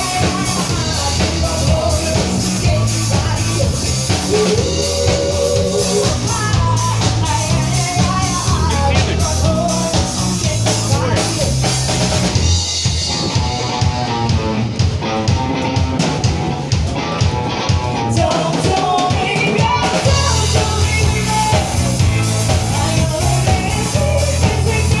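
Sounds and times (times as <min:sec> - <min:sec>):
song with singing drums and bass: 0:00.0 - 0:25.0.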